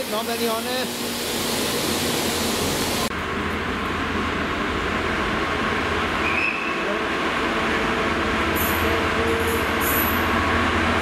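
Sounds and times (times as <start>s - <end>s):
diesel locomotive engine hum: 0.0s - 11.0s
train rumble: 0.0s - 11.0s.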